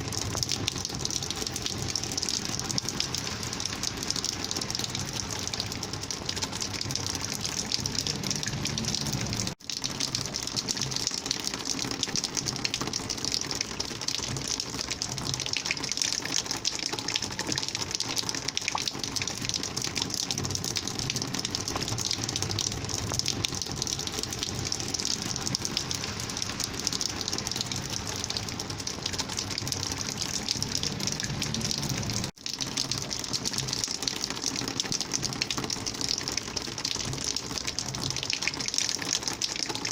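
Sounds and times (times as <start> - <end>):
rainwater gushing: 0.0 - 39.9.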